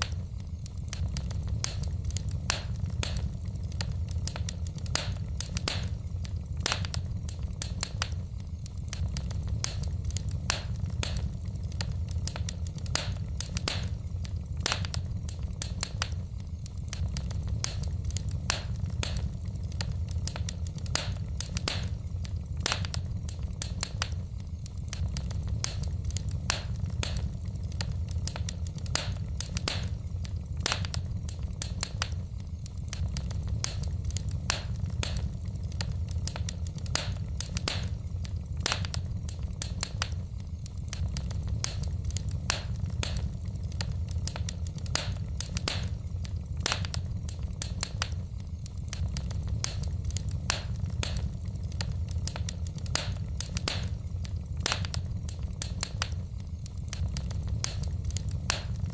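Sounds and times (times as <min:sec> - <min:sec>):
low rumble of fire: 0:00.0 - 0:58.9
wood fire crackling: 0:00.0 - 0:58.9.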